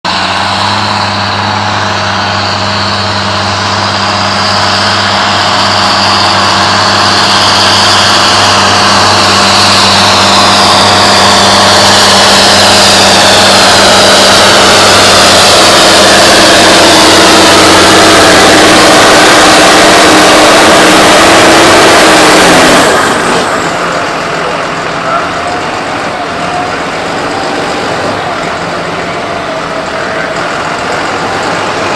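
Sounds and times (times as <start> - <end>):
tractor diesel engine under load: 0.0 - 31.9
high whine falling in pitch: 0.1 - 31.9.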